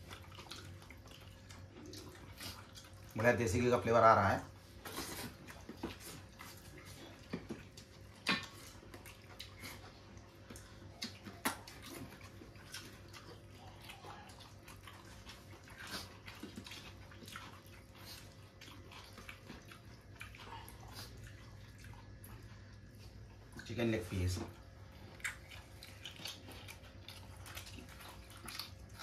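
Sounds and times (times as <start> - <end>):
faint hum: 0.0 - 29.0
people chewing: 0.0 - 29.0.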